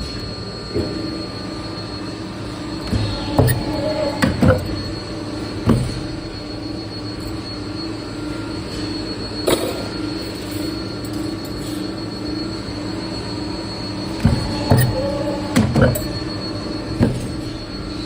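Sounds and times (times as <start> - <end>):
machine hum and whine: 0.0 - 18.0.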